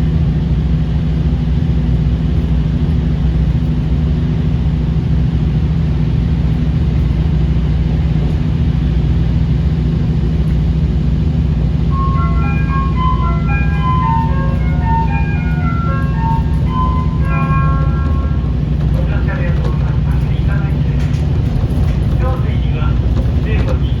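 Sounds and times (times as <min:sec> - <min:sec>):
diesel railcar engine idling: 0:00.0 - 0:24.0.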